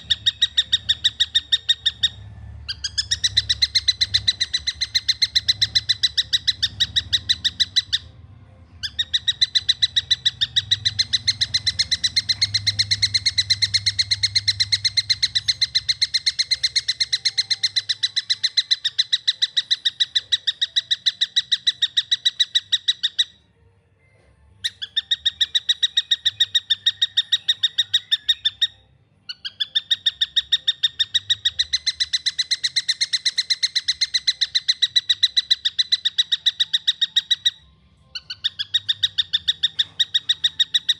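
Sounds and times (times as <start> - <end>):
bird calling rapid sharp chirps: 0.0 - 8.2, 8.8 - 23.4, 24.6 - 40.9.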